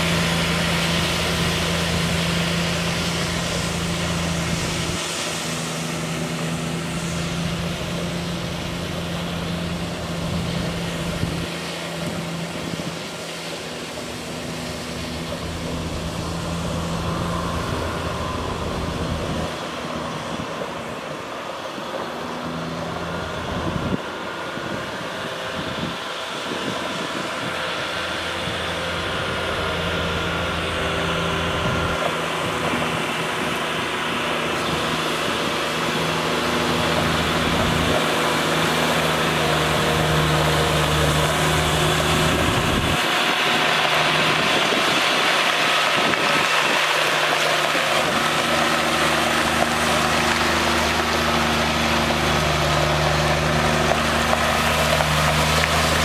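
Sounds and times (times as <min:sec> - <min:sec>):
water spraying onto gravel: 0:00.0 - 0:20.1, 0:26.1 - 0:56.0
truck diesel engine running: 0:00.0 - 0:56.0.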